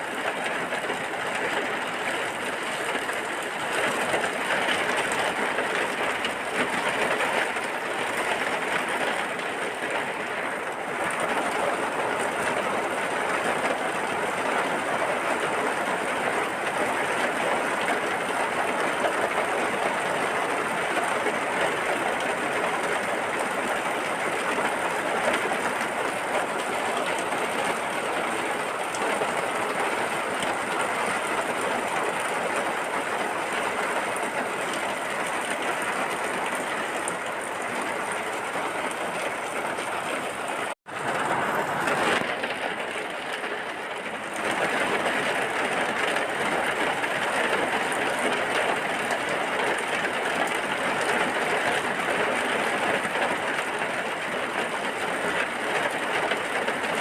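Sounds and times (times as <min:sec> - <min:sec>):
heavy rainfall: 0:00.0 - 0:57.0.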